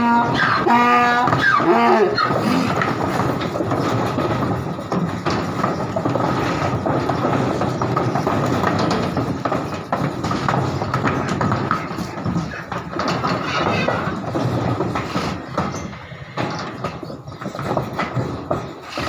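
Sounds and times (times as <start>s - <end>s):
hooves knocking on wooden ramp: 0.0s - 19.0s.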